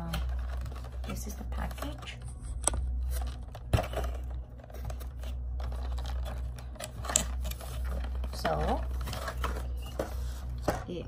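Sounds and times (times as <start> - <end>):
cardboard and plastic clicks and scrapes: 0.0 - 11.0
steady low hum: 0.0 - 11.0.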